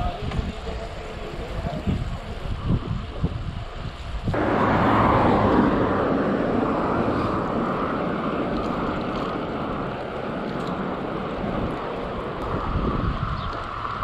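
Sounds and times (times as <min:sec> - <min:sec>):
steady rush of wind: 0:00.0 - 0:14.0
wind buffeting microphone: 0:00.0 - 0:14.0.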